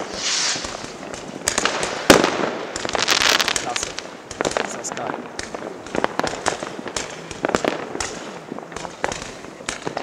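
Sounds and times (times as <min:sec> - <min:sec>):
fireworks bangs and cracks: 0:00.0 - 0:10.0.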